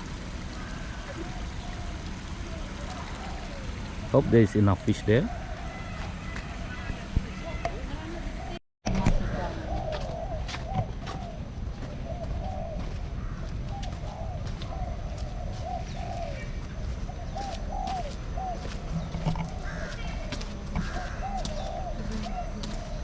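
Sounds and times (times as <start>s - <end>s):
birds calling low notes: 0.0s - 23.0s.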